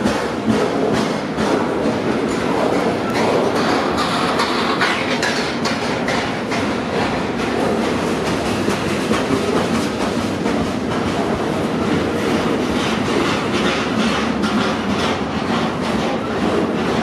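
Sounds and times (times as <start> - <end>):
train wheels rumbling on rails: 0.0 - 17.0
wheel clicks on rails: 0.0 - 17.0.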